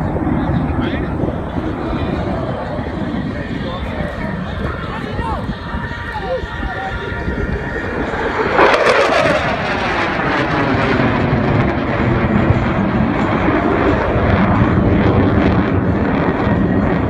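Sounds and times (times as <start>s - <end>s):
fighter jet passing: 0.0s - 17.0s.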